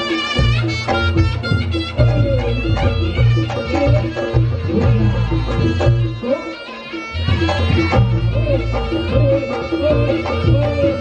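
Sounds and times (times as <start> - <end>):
drum strokes: 0.0 - 11.0
shrill reed trumpet melody: 0.0 - 11.0.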